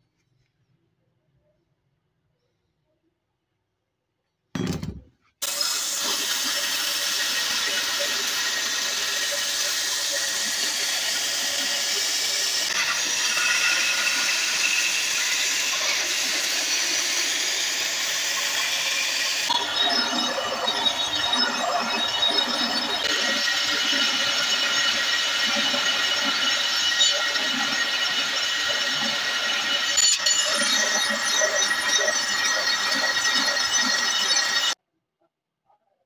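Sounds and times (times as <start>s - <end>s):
belt sander grinding metal: 5.5s - 34.8s.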